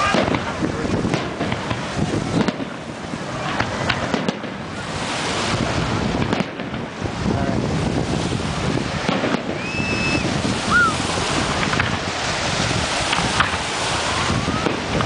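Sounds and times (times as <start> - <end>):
fireworks bangs: 0.0 - 15.0
fireworks crackling rumble: 0.0 - 15.0
wind on microphone: 0.0 - 15.0.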